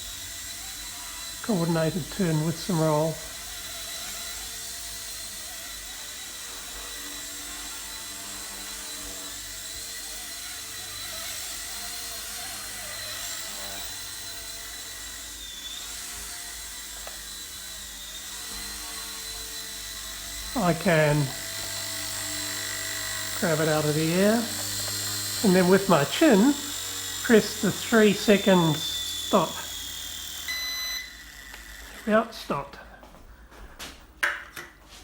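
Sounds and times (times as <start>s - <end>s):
small rc helicopter whine: 0.0s - 33.3s.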